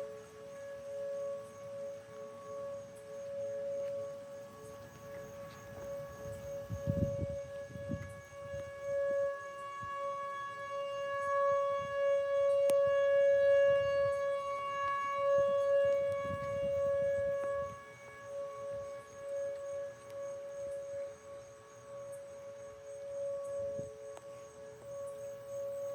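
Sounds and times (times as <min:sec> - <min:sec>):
civil defense siren: 0:00.0 - 0:25.9.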